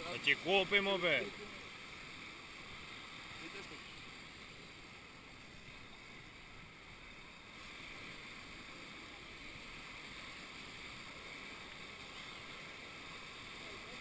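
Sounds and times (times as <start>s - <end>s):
faint surf hiss: 0.0s - 14.0s.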